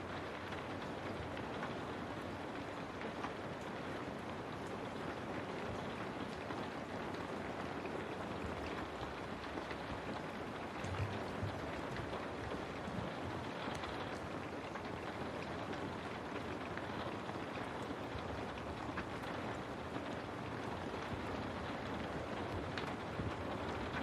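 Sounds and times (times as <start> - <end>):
rain on a window pane: 0.0 - 24.0.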